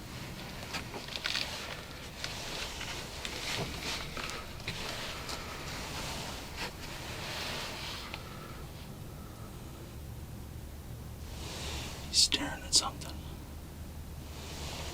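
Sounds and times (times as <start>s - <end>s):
faint rustling: 0.0s - 10.2s, 11.0s - 14.9s
low background hiss: 0.0s - 14.9s.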